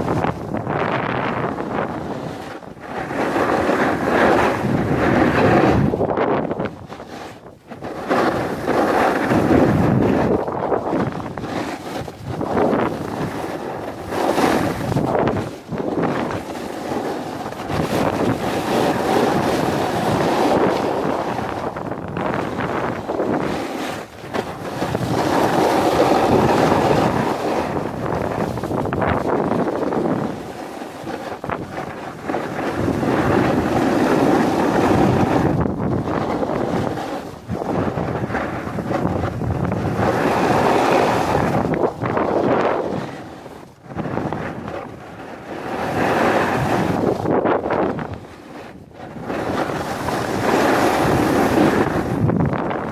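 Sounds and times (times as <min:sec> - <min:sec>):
snowboard sliding on snow: 0:00.0 - 0:52.9
wind buffeting microphone: 0:00.0 - 0:52.9.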